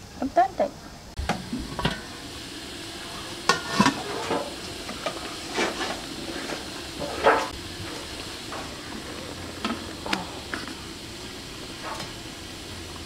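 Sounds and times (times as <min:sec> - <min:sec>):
steam hissing from steamer: 0:00.0 - 0:13.0.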